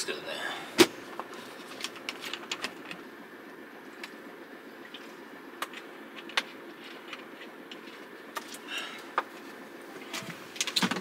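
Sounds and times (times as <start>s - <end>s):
truck cab hum: 0.0s - 11.0s.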